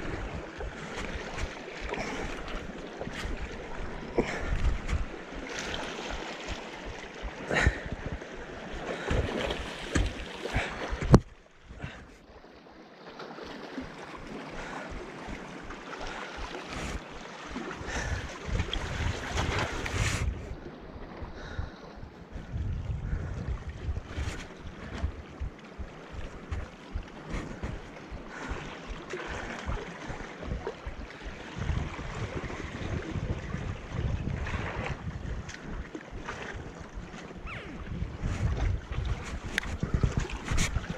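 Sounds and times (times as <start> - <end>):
sea washing against rocks: 0.0 - 12.1, 13.4 - 21.6, 22.3 - 40.9
wind on microphone: 0.0 - 12.1, 14.2 - 40.9.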